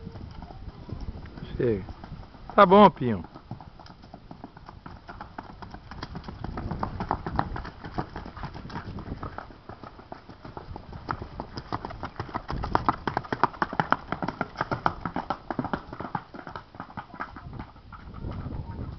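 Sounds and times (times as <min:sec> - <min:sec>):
horse hooves clip-clopping on dirt: 0:00.0 - 0:18.9.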